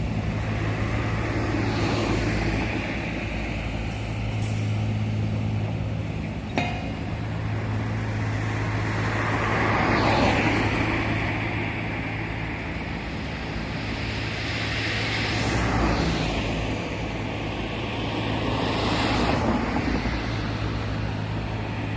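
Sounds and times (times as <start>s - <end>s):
low engine hum: 0.0s - 21.9s
vehicles passing: 0.0s - 21.9s.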